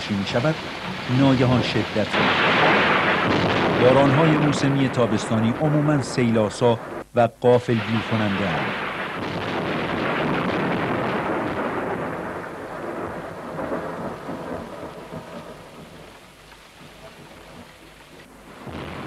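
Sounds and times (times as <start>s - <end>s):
rolling thunder: 0.0s - 6.2s, 7.8s - 17.8s, 18.4s - 19.0s
heavy rain: 0.0s - 7.1s, 7.7s - 19.0s.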